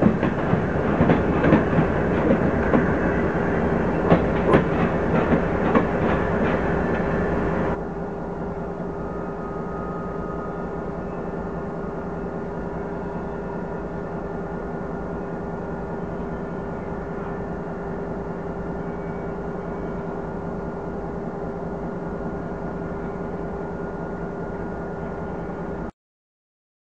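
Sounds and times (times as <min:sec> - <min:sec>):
diesel locomotive engines droning: 0:00.0 - 0:25.9
passing train rumble: 0:00.0 - 0:25.9.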